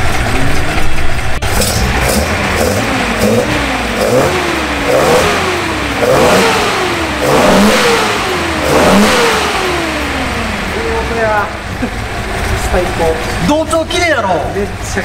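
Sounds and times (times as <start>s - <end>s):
car engine revving: 0.0s - 15.0s
engine intake roar: 0.0s - 15.0s.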